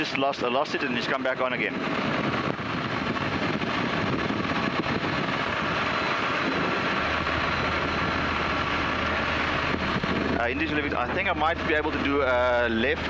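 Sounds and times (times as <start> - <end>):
aircraft engine and propeller: 0.0 - 13.0
rush of airflow: 1.6 - 13.0.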